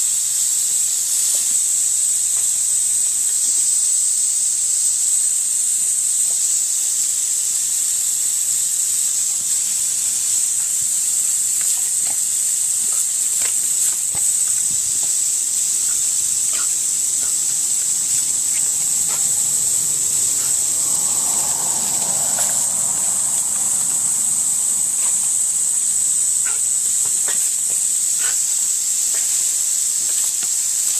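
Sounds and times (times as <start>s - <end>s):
water hissing from hose nozzle: 0.0s - 30.9s
spray ticks: 0.4s - 3.7s, 6.2s - 30.9s.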